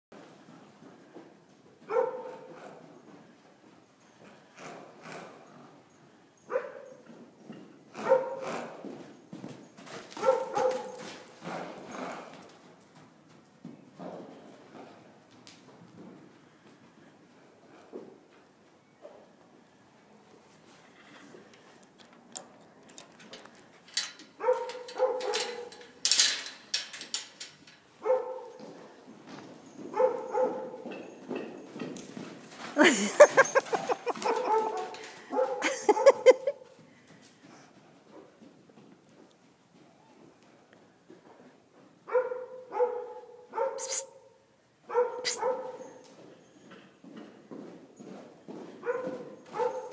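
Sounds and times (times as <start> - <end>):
hoofbeats on soft dirt: 0.1 - 22.6, 27.6 - 35.7, 36.5 - 42.9, 45.5 - 49.9.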